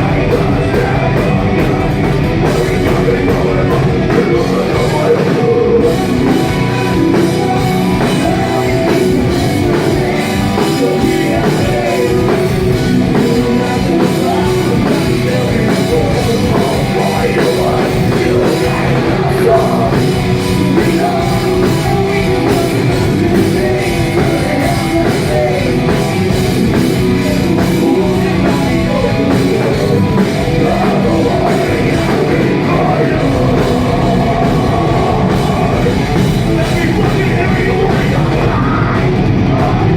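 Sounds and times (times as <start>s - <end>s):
distorted live heavy metal band: 0.0s - 39.9s.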